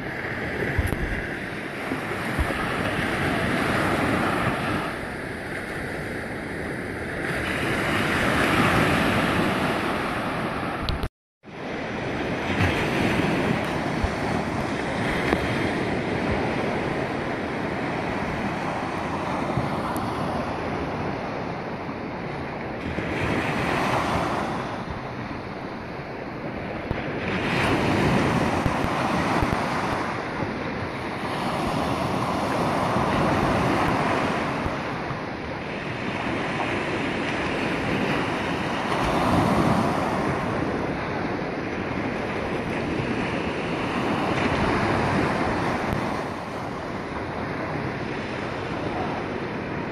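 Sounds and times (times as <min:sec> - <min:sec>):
ocean surf rushing: 0:00.0 - 0:49.9
wind buffeting microphone: 0:00.0 - 0:49.9.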